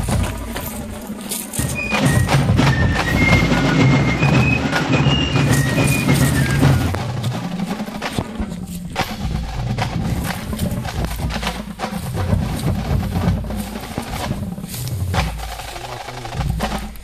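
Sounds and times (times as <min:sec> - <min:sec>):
snare and bass drums marching: 0:00.0 - 0:17.0.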